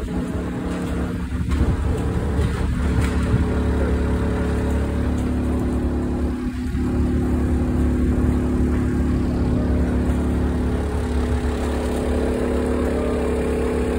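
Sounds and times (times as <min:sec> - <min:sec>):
boat engine idling: 0:00.0 - 0:13.9.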